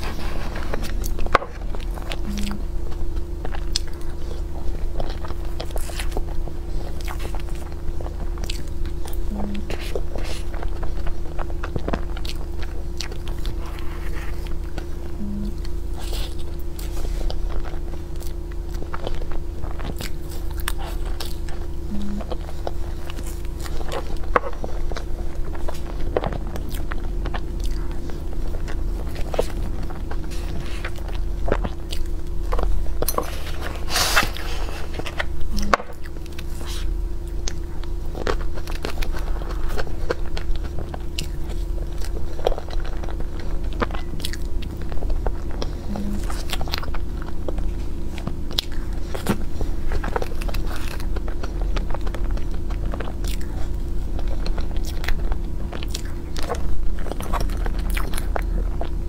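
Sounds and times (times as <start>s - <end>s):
steady low hum: 0.0s - 59.0s
wet chewing and mouth noises: 0.0s - 59.0s.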